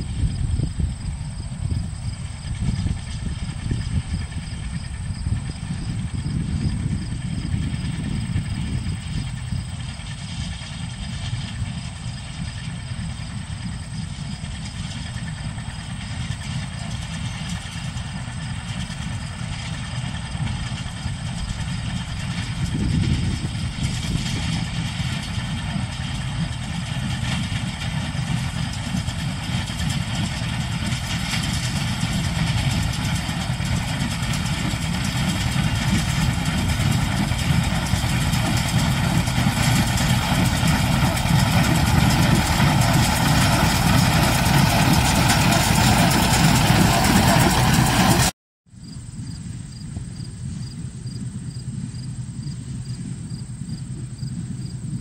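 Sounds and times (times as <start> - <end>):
engine running: 0.0 - 48.4.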